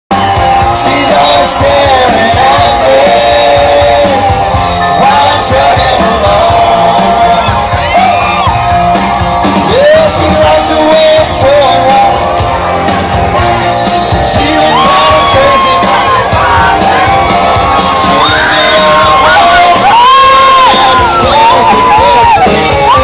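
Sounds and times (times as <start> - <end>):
live country band playing: 0.1 - 23.0
man singing into microphone: 0.6 - 7.8, 9.6 - 12.4, 14.1 - 23.0.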